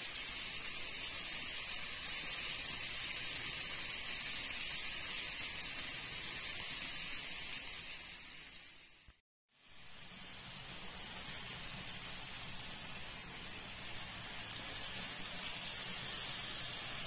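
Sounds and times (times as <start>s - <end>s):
model train running: 0.0s - 9.0s, 9.6s - 17.0s.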